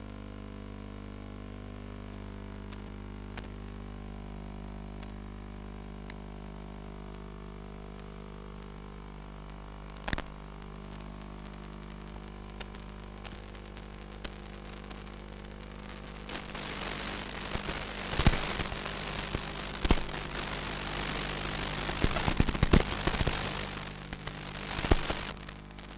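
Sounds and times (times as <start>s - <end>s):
crackling radio static: 0.0s - 25.9s
electrical hum and hiss: 0.0s - 25.9s.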